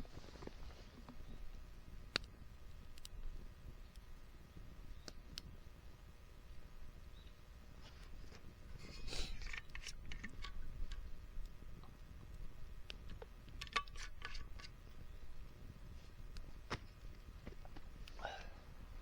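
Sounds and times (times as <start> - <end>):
campfire wood crackling and snapping: 0.1 - 19.0.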